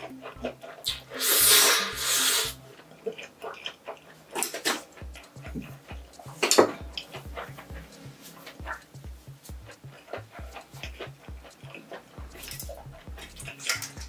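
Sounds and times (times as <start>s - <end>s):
chewing and wet mouth sounds: 0.0s - 14.0s
sharp noises: 0.0s - 14.0s.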